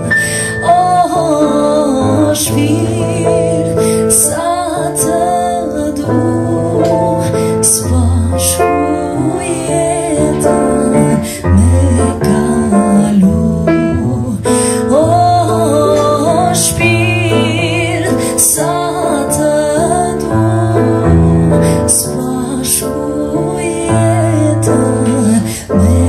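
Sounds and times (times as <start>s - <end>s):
woman singing with vibrato: 0.0s - 26.0s.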